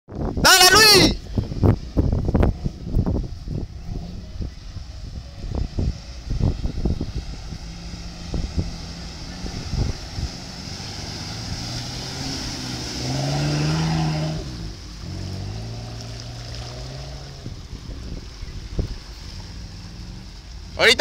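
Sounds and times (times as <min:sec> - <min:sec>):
engine revving under load: 0:03.7 - 0:20.7.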